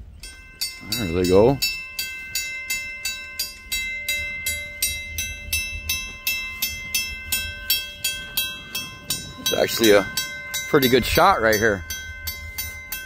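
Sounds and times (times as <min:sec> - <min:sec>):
railroad crossing bell ringing: 0:00.0 - 0:13.0
low rumble: 0:01.6 - 0:13.0.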